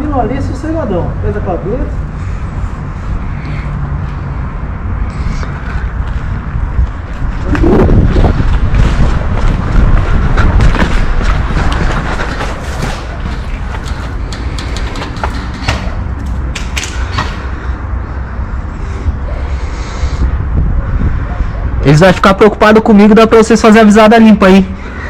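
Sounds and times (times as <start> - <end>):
wind rumble on microphone: 2.0 - 22.4.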